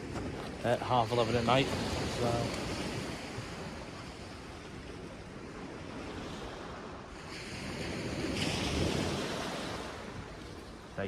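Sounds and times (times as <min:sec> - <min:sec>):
sea surf washing onto beach: 0:00.0 - 0:11.0
wind buffeting microphone: 0:00.0 - 0:11.0.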